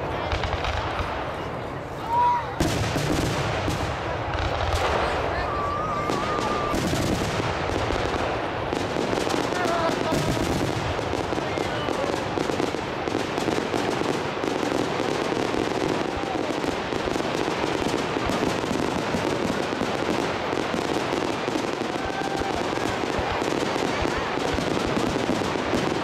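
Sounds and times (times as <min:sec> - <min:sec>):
fireworks popping and crackling: 0:00.0 - 0:26.0.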